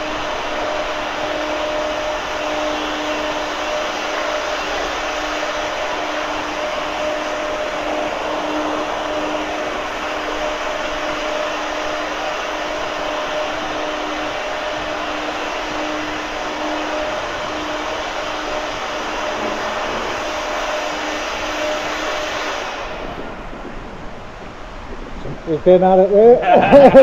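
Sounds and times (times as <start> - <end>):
sandblasting nozzle hissing: 0.0 - 23.9
faint steady hum: 0.0 - 27.0.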